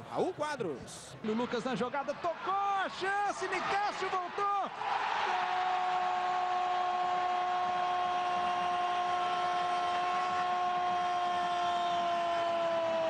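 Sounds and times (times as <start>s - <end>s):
stadium crowd noise: 0.0s - 13.0s.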